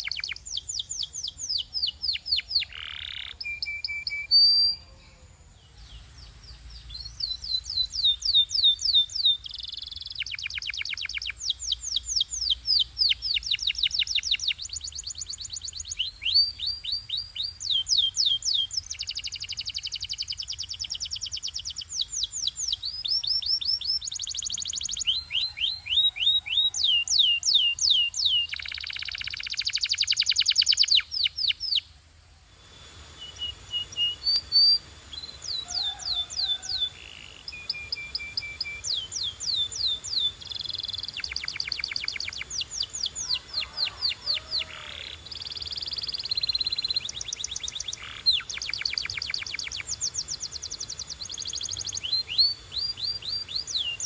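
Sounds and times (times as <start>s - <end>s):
canary singing trills: 0.0s - 32.0s, 32.6s - 54.0s.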